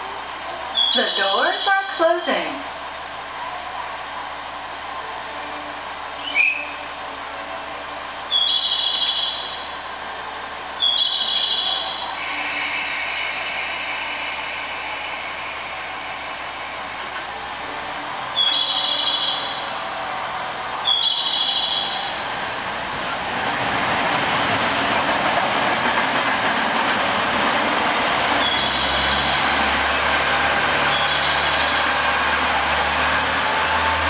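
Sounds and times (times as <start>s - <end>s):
diesel railcar engine accelerating: 0.0s - 34.0s.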